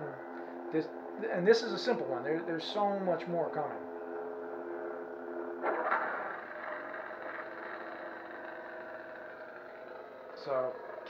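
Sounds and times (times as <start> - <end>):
lightsaber hum: 1.2 - 11.0.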